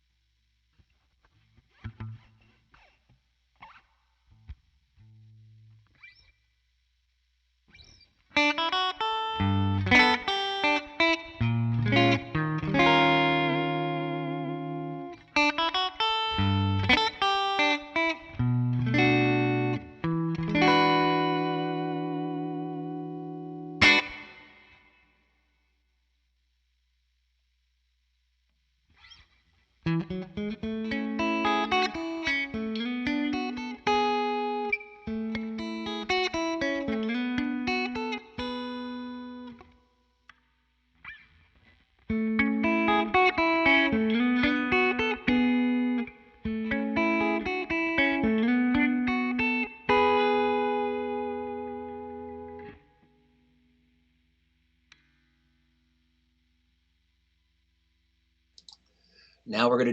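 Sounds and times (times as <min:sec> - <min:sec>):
clean electric guitar: 0:00.7 - 0:06.6, 0:07.5 - 0:25.2, 0:28.4 - 0:59.9.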